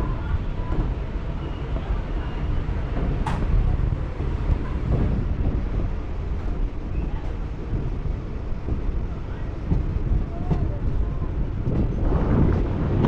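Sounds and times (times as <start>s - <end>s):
train rumble: 0.0s - 13.0s
wind buffeting microphone: 0.0s - 13.0s.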